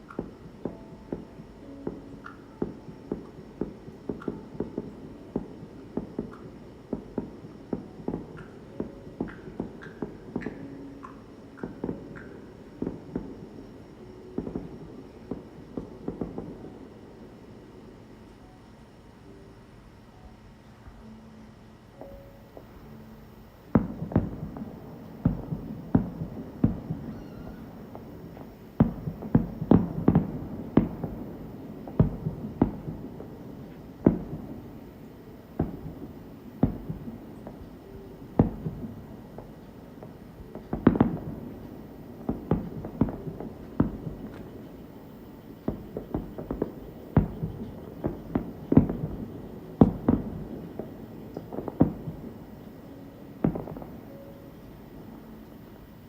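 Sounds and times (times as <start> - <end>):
fireworks bursting: 0.0 - 18.2, 22.0 - 56.0.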